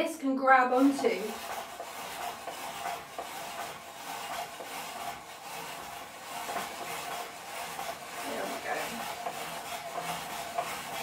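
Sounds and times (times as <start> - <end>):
spiralizer cutting vegetable: 0.7 - 11.0.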